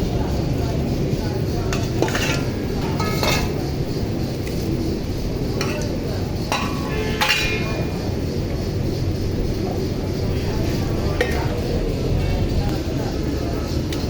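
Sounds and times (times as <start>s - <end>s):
steady low rumble: 0.0s - 13.9s
metal utensils clinking on pot: 1.0s - 12.9s.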